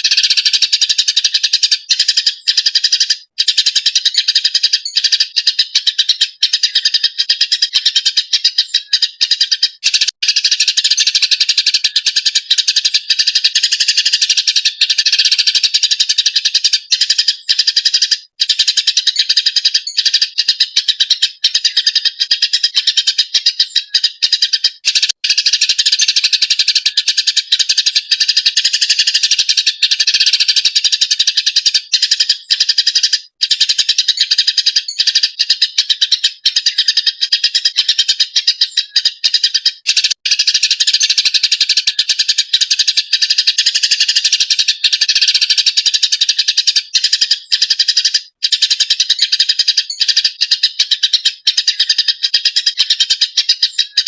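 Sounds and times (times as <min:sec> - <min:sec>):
sparrow chirping: 0:00.0 - 0:54.0.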